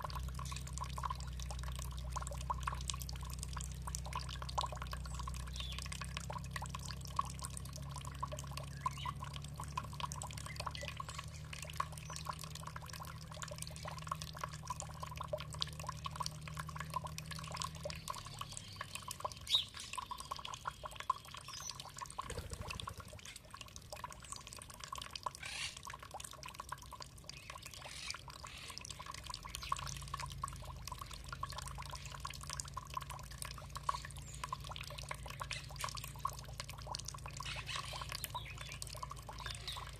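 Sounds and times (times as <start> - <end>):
low steady hum: 0.0 - 39.9
water dripping and splashing: 0.0 - 39.9.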